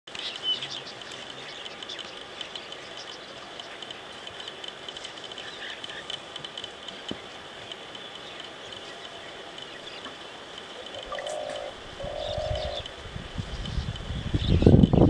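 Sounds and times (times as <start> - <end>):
insects buzzing: 0.1 - 15.0.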